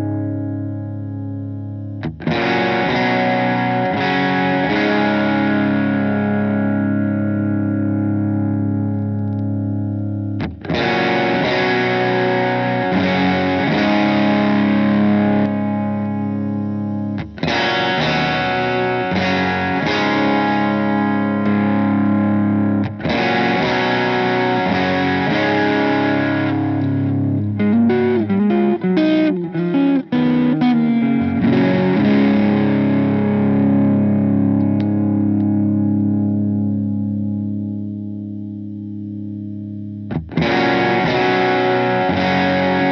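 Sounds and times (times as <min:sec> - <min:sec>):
overdriven electric guitar chords: 0:00.0 - 0:42.9.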